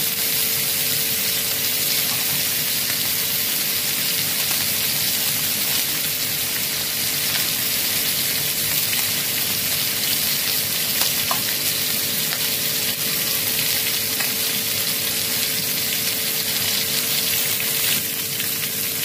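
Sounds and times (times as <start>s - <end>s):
chicken wings sizzling in oil: 0.0s - 19.0s.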